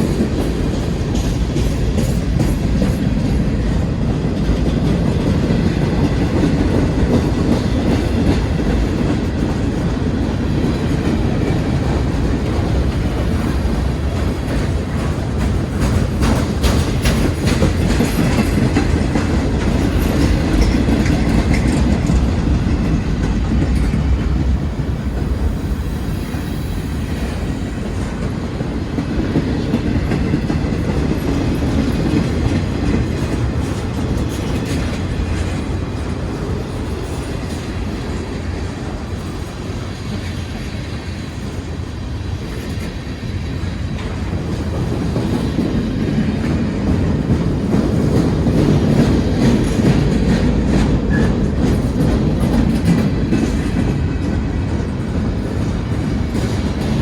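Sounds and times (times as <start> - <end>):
freight train rumbling: 0.0 - 57.0
train wheels clacking over rail joints: 0.0 - 57.0.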